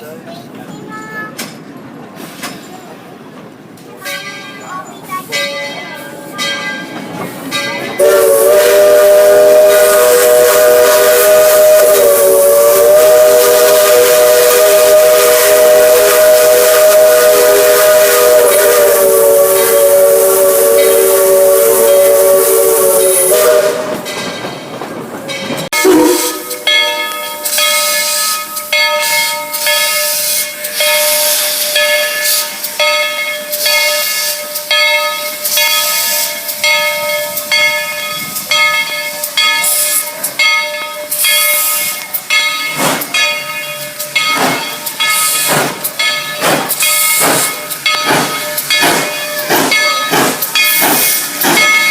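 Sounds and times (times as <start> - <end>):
steam locomotive chime whistle: 7.5 - 24.3, 25.7 - 51.9
steam hissing: 8.0 - 24.2, 25.8 - 51.9.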